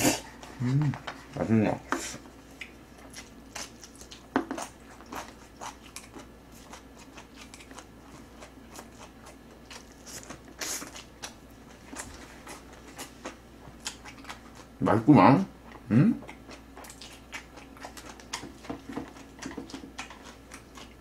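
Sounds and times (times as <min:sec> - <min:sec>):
wet chewing smacks: 0:02.5 - 0:14.7, 0:15.7 - 0:21.0.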